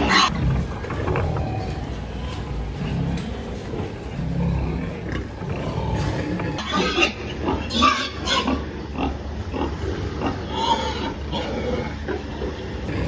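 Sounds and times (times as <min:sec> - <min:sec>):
piglets squealing and grunting: 0:00.0 - 0:13.0
steady low hum: 0:00.0 - 0:13.0.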